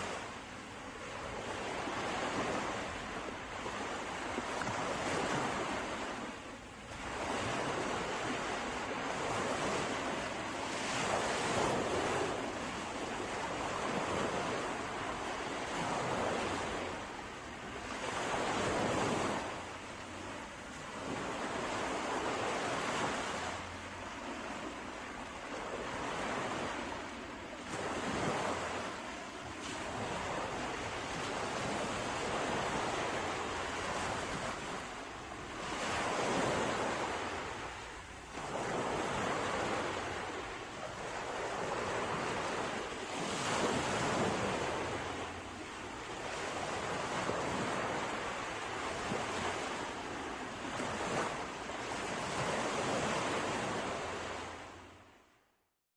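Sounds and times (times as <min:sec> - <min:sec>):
ocean waves breaking on shore: 0:00.0 - 0:55.4.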